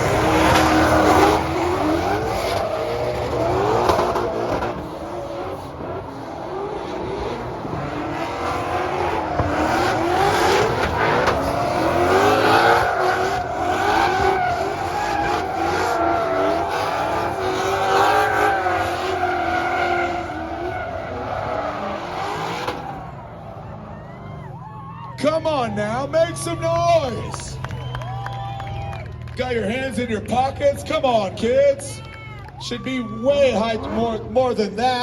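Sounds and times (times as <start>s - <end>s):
tyres squealing and skidding: 0.0s - 29.2s, 30.6s - 35.0s
car engines revving: 0.0s - 35.0s.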